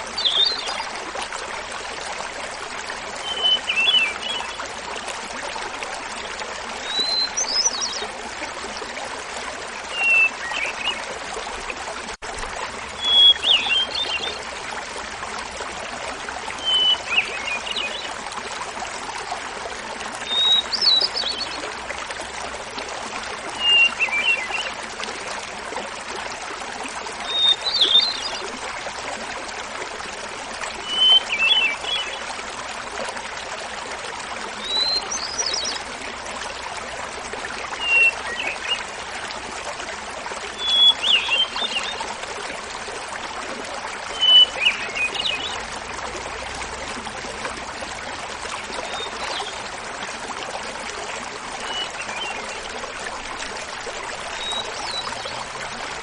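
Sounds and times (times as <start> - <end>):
small waterfall babbling: 0.0 - 56.0.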